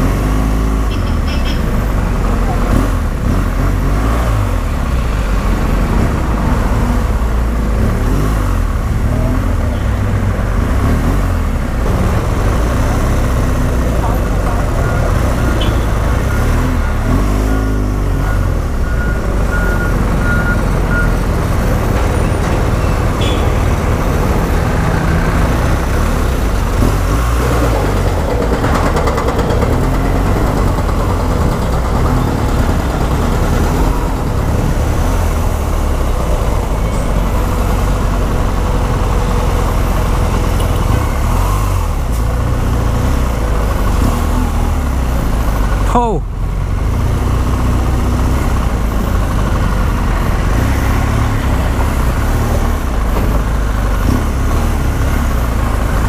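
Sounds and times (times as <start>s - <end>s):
motorcycle engine rumble: 0.0s - 56.0s
town traffic: 0.0s - 56.0s.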